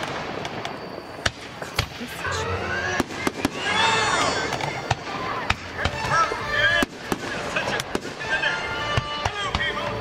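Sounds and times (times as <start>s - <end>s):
fireworks bangs and cracks: 0.0s - 10.0s
rumble of fireworks bursts: 0.0s - 10.0s.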